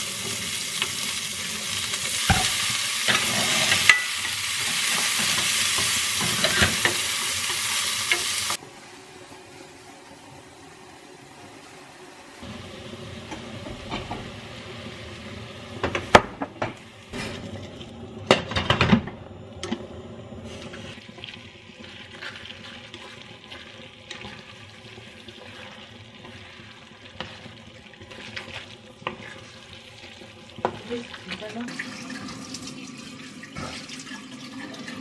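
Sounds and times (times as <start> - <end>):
food sizzling in a frying pan: 0.0 - 19.1, 20.5 - 35.0.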